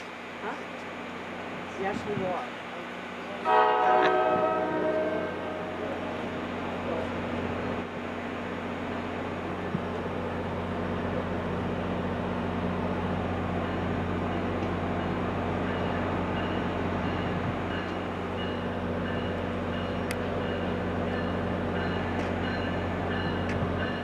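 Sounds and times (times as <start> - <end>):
train rumble and hum: 0.0 - 24.0.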